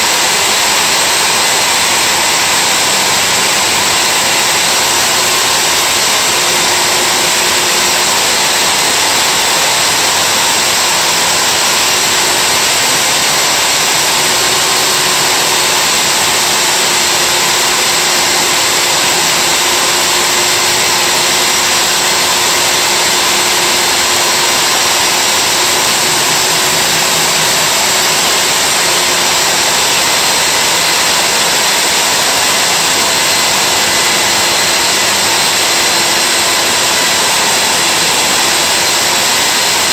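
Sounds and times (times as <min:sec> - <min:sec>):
core drill grinding into masonry: 0:00.0 - 0:39.9.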